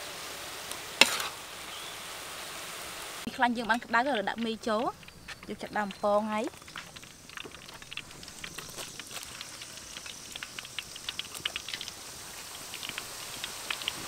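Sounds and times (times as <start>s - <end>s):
noodles frying in hot oil: 0.0s - 14.0s.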